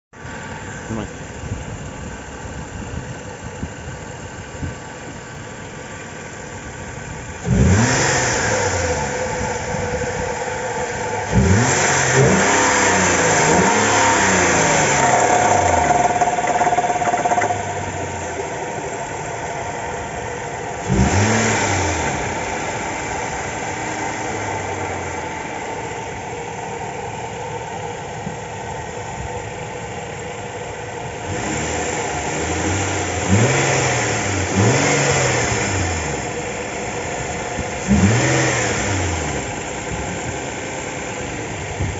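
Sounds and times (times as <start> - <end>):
car engine idling and revving: 0.2 - 41.9.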